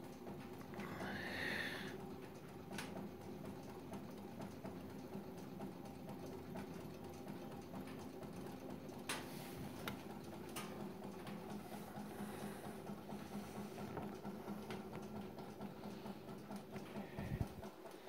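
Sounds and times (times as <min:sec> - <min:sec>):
rapid mechanical ticking: 0:00.0 - 0:18.0.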